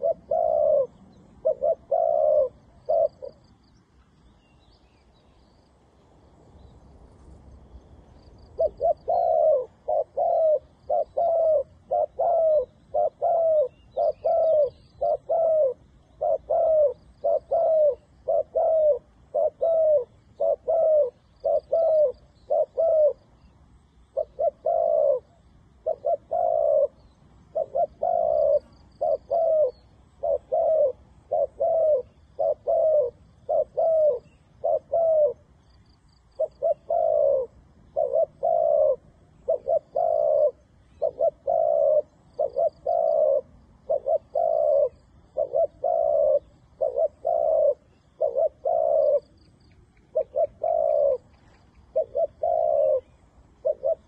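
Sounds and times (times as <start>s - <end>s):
doves cooing: 0.0s - 3.6s, 8.4s - 54.0s.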